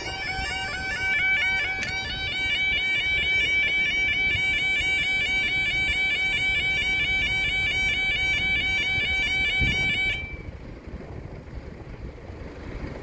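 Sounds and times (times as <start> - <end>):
level crossing alarm warbling: 0.0 - 10.6.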